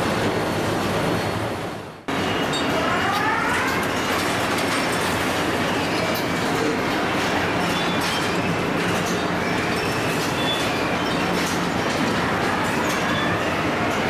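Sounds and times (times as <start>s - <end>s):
mechanical rumble and clatter: 0.0s - 14.0s.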